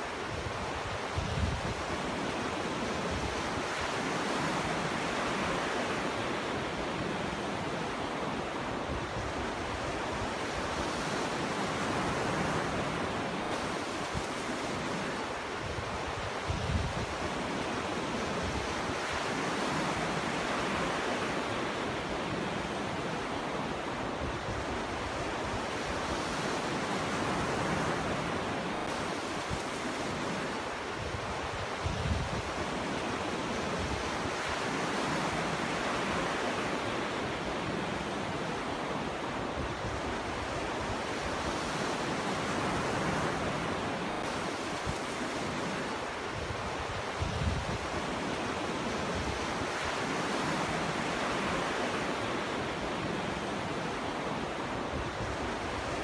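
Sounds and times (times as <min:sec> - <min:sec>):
ocean surf washing on beach: 0:00.0 - 0:56.0.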